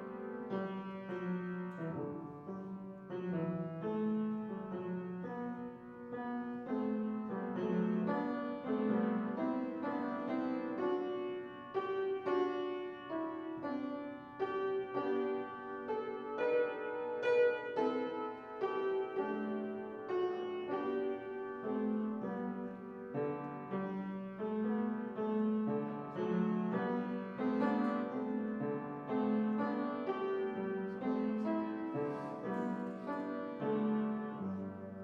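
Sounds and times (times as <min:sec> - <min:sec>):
solo piano playing: 0:00.0 - 0:35.0.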